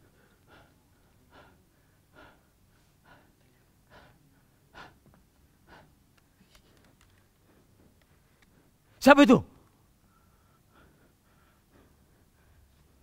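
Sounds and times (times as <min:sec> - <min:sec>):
man breathing: 0:00.0 - 0:06.0, 0:06.6 - 0:09.0, 0:09.9 - 0:13.0.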